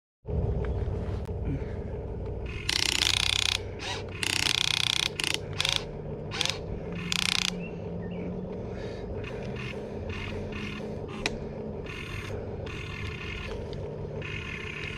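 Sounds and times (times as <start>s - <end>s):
electric motors whining: 0.3s - 14.9s
steady low hum: 0.3s - 14.9s.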